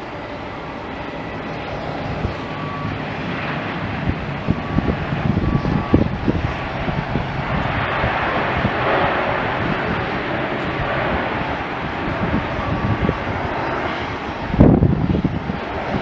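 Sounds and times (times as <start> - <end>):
turboprop engine and propeller noise: 0.0 - 16.0.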